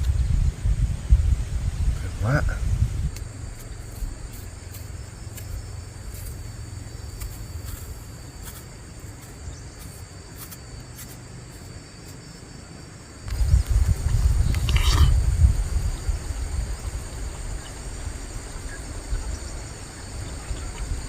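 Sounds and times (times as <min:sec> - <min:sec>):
insects chirring: 0:00.0 - 0:21.0
faint scattered ticks: 0:03.1 - 0:21.0.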